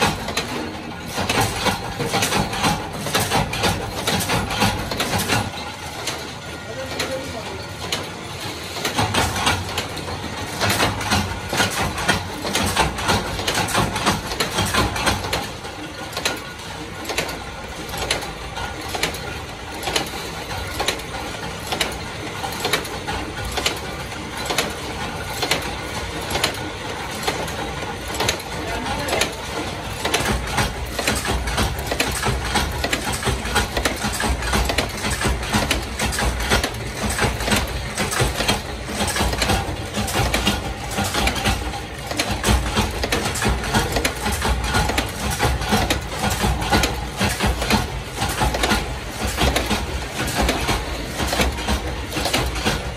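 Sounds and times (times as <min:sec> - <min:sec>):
machine metallic clatter: 0:00.0 - 0:52.9.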